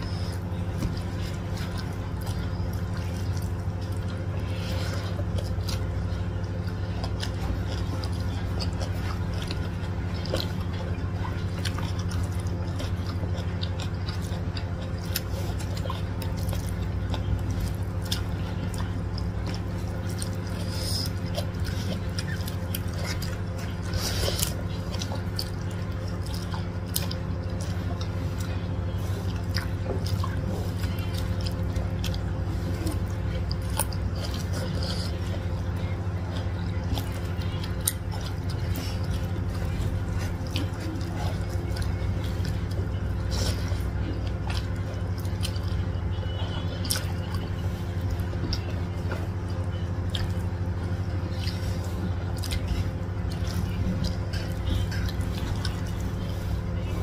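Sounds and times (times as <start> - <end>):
low hum: 0.0 - 57.0
people chewing food: 0.0 - 57.0.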